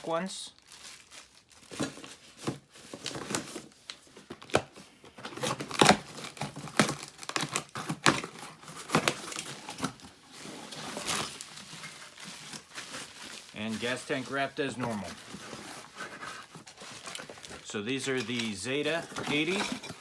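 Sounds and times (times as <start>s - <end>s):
packaging wrap crinkling and tearing: 0.0s - 20.0s.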